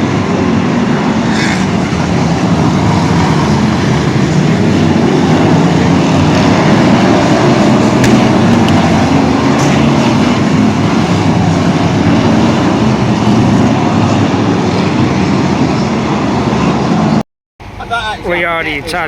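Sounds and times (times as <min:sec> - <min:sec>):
vehicle engine rumble: 0:00.0 - 0:18.2
road noise: 0:00.0 - 0:19.0.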